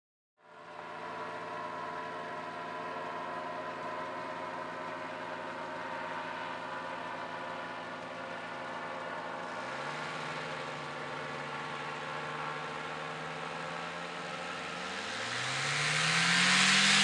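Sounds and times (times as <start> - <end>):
engine idling: 0.4 - 17.0.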